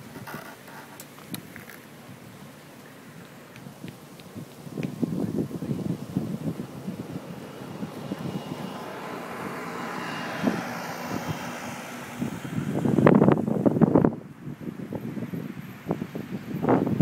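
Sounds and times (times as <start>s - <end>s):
faint engine drone: 0.0s - 15.9s
wind buffeting microphone: 1.2s - 17.0s.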